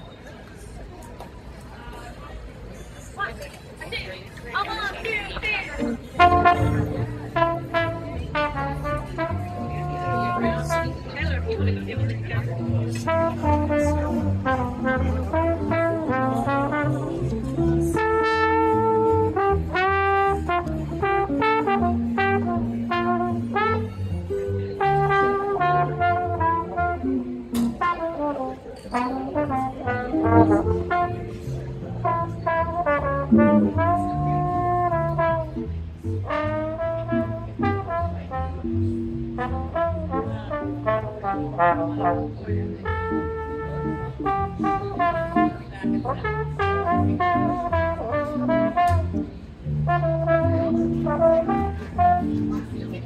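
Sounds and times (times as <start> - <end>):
guitar: 5.6 - 53.0
plucked upright bass: 5.8 - 53.0
trombone melody: 6.1 - 11.2, 12.9 - 53.0.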